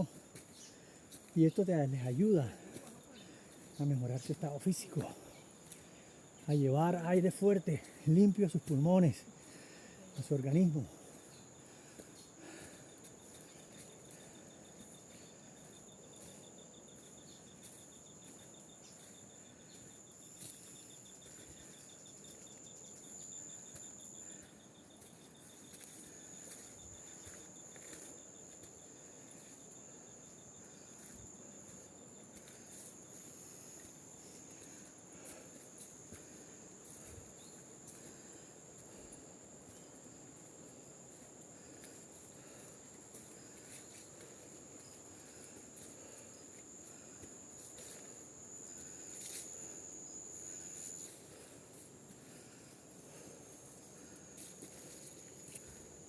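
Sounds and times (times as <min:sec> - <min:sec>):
lower rapid insect trill: 0:00.0 - 0:56.0.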